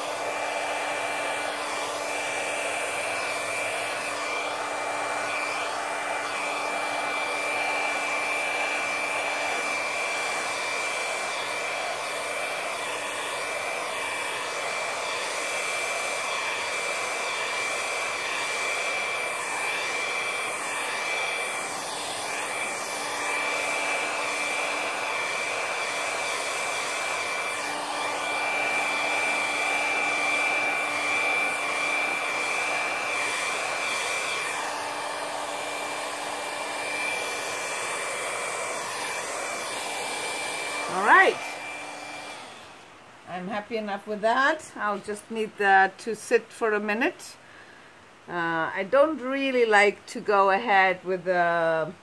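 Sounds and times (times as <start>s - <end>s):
hair dryer running: 0.0s - 45.7s.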